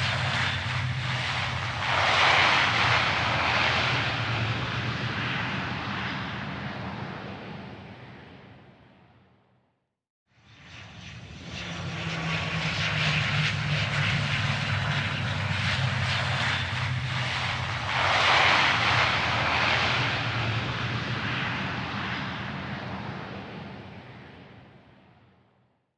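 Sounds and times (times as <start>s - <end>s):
airplane engine rushing: 0.0s - 8.8s, 10.4s - 25.0s.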